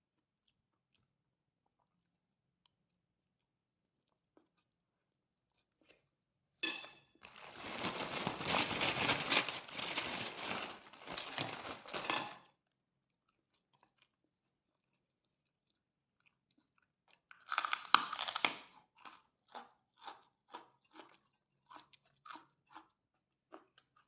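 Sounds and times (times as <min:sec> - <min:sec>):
crunchy crackers being chewed: 0:00.0 - 0:06.2, 0:07.2 - 0:24.0.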